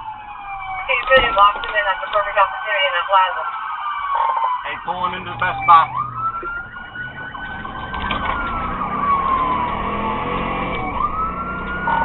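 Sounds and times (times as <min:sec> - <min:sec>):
police siren wailing: 0:00.0 - 0:12.0
road noise: 0:00.0 - 0:12.0
vehicle engine rumble: 0:00.0 - 0:12.0.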